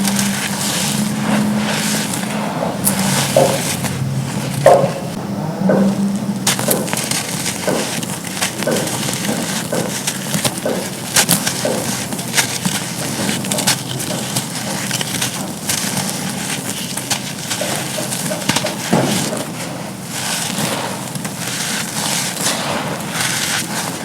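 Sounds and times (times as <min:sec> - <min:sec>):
charcoal crunching and cracking: 0:00.0 - 0:24.0.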